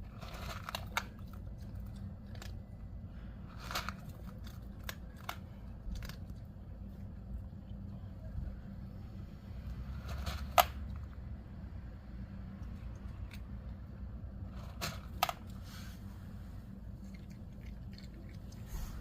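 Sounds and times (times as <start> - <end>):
cat crunching dry kibble: 0.0 - 8.2, 9.6 - 19.0
steady low hum: 0.0 - 19.0.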